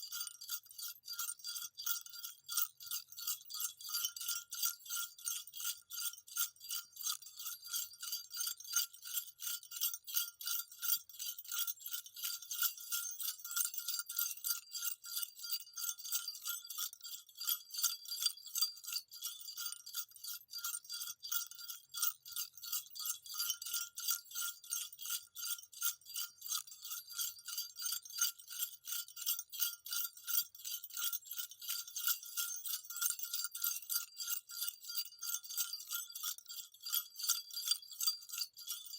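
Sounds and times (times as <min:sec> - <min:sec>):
jingle bells shaken: 0:00.0 - 0:38.9.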